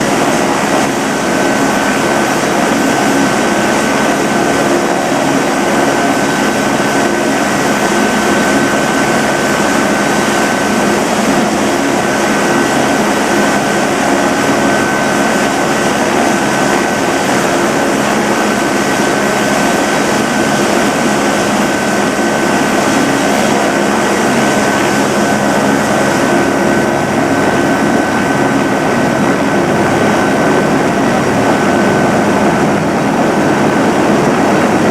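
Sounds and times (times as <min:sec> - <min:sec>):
helicopter turbine and rotor: 0:00.0 - 0:34.9.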